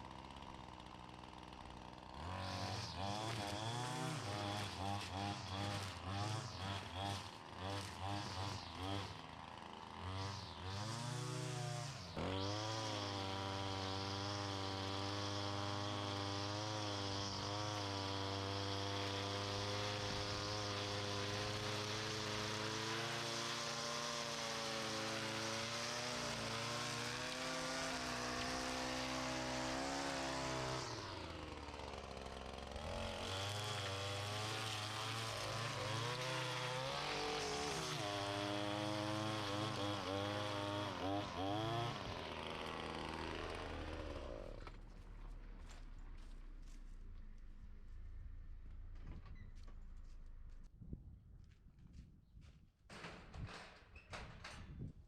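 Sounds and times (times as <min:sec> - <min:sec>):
small engine running at high throttle: 0:00.0 - 0:50.6.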